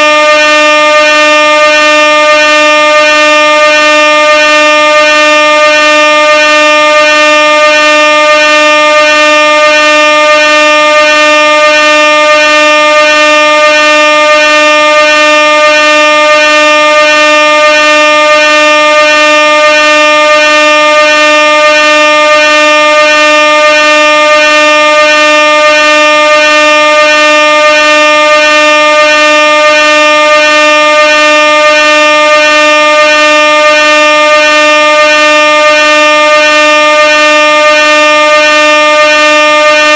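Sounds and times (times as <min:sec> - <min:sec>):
air horn blast: 0:00.0 - 0:39.9.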